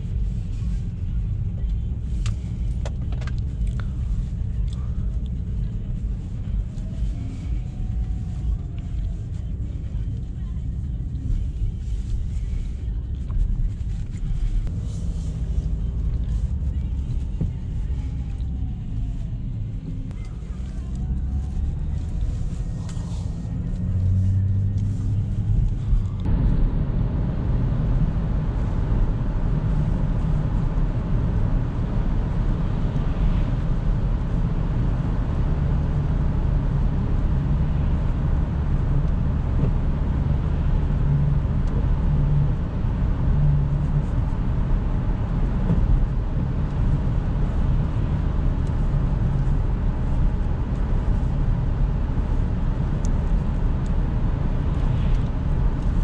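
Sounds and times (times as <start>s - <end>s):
low car engine drone: 0.0s - 56.0s
tyre and road noise: 0.0s - 56.0s.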